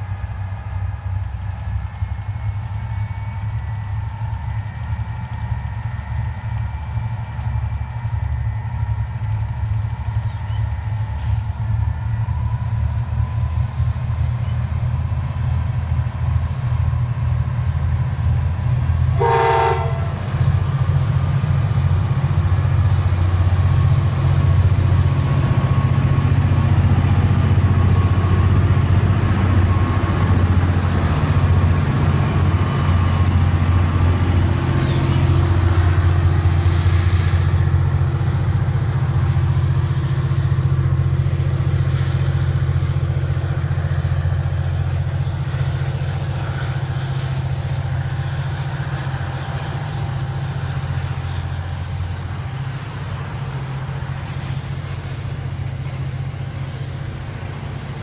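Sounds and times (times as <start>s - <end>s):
locomotive engine drone: 0.0s - 58.0s.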